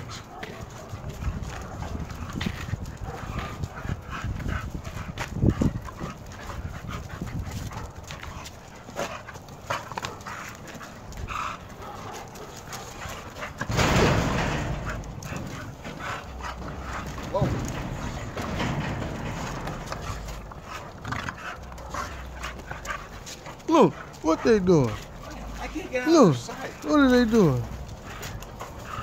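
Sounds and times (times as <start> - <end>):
dog claws clicking on concrete: 0.0 - 24.2
dogs panting: 0.0 - 29.0.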